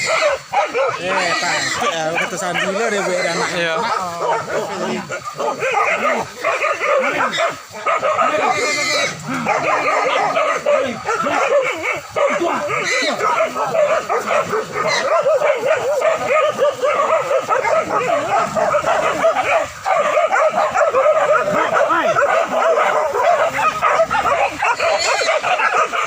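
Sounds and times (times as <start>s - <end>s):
dogs barking and yelping: 0.0s - 26.0s.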